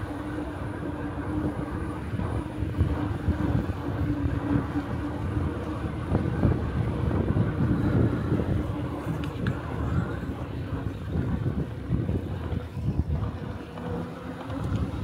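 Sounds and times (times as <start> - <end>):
electric motor hum: 0.0 - 15.0
wind rumbling on microphone: 0.0 - 15.0.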